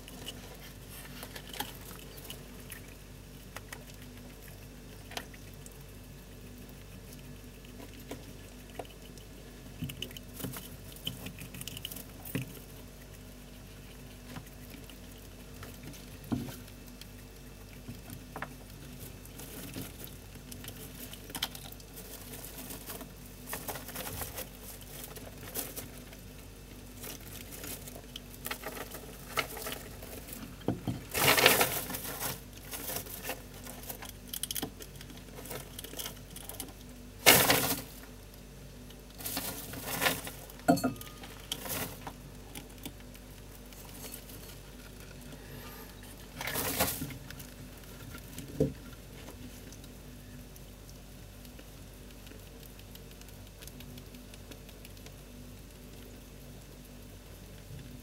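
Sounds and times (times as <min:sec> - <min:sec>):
rats rustling in hay: 0:00.0 - 0:58.0.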